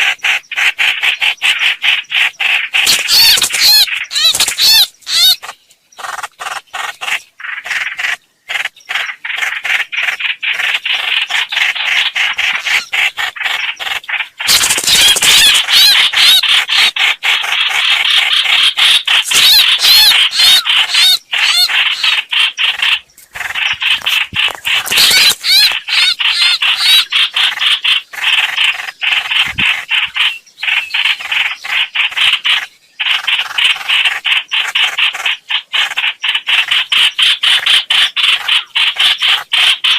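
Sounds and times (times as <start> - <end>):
birds chattering: 0.0 - 39.9.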